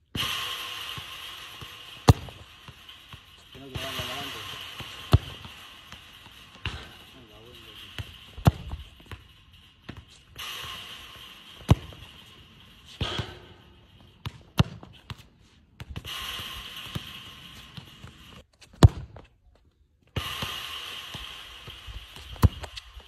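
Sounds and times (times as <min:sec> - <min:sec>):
steady hiss: 0:00.0 - 0:14.3, 0:16.0 - 0:18.4, 0:20.2 - 0:23.0
footballs kicked and bouncing: 0:00.1 - 0:23.0.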